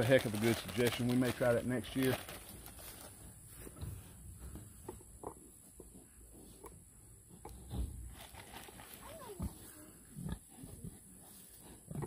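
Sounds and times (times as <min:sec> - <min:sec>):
pigs snuffling and grunting: 0:00.0 - 0:12.0.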